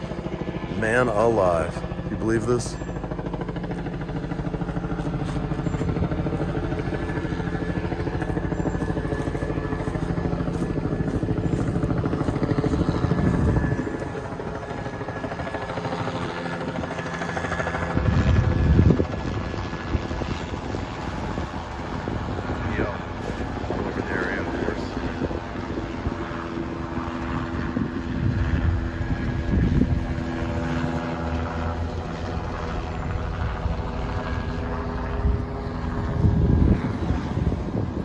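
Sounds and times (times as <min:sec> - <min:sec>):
helicopter rotor chop: 0:00.0 - 0:38.0.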